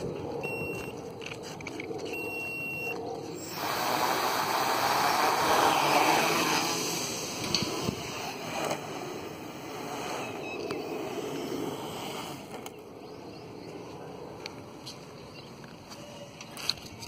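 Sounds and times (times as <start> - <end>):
quadcopter motors whirring: 0.0 - 14.7.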